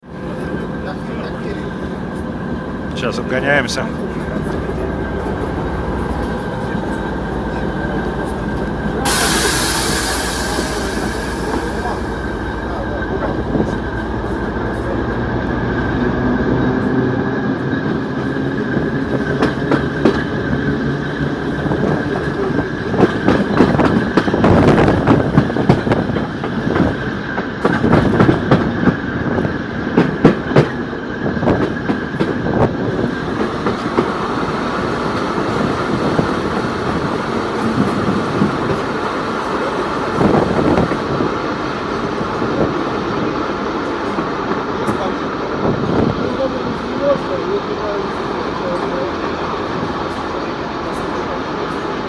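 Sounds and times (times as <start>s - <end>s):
diesel locomotive running: 0.0s - 52.0s.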